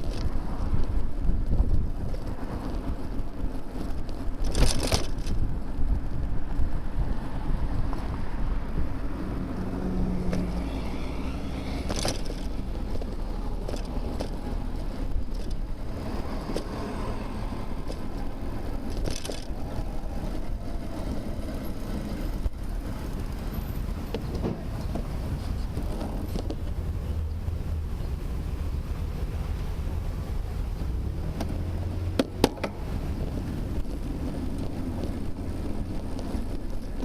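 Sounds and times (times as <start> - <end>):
motor traffic: 0.0 - 37.0
wind and road rumble: 0.0 - 37.0.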